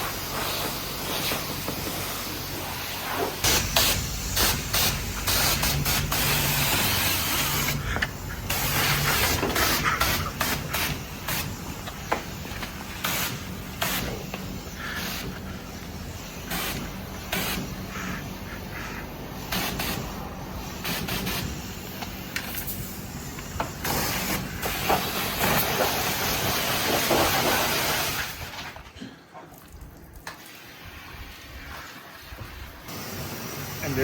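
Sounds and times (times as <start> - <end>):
high-pressure water spraying: 0.0 - 28.7, 32.9 - 34.0.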